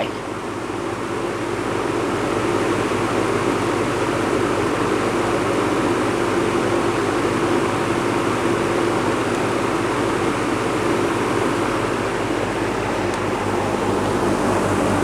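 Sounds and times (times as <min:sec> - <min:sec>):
box fan blowing air: 0:00.0 - 0:15.0.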